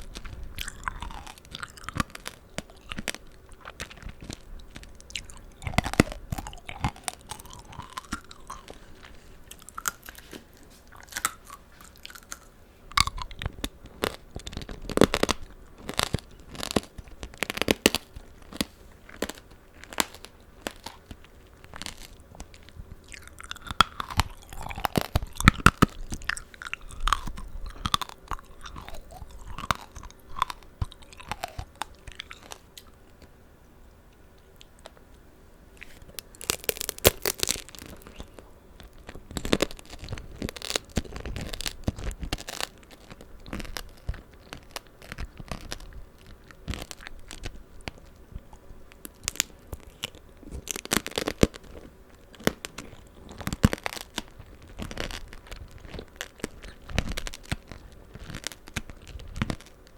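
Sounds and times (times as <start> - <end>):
candied fruit crunching: 0.0 - 33.3, 34.2 - 59.9.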